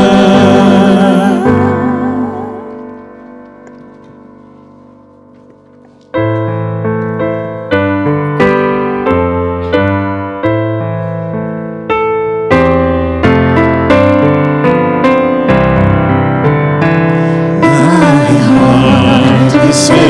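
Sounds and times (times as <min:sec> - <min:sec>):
grand piano chords: 0:00.0 - 0:20.0.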